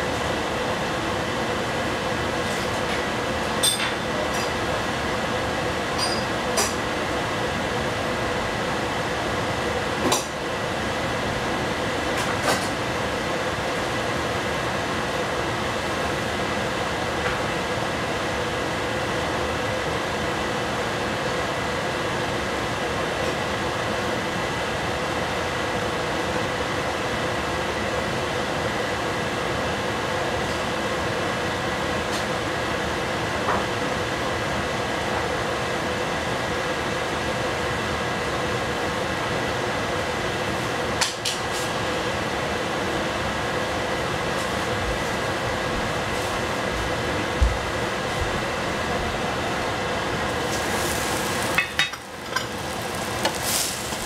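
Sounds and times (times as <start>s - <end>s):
gas burner hiss and hum: 0.0s - 54.0s.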